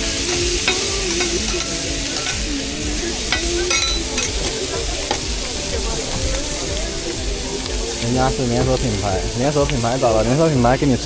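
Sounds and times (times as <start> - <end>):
food sizzling on a griddle: 0.0 - 11.0.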